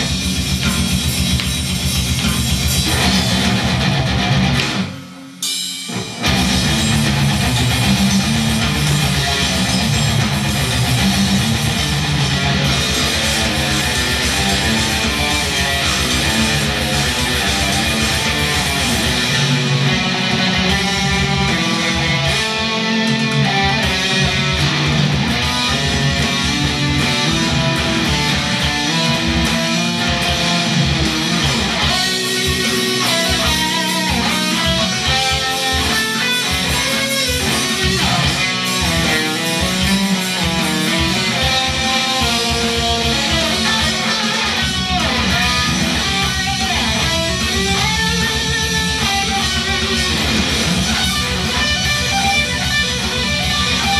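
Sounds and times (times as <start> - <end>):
death metal song: 0.0 - 53.9
distorted electric guitar riffs: 0.0 - 53.9.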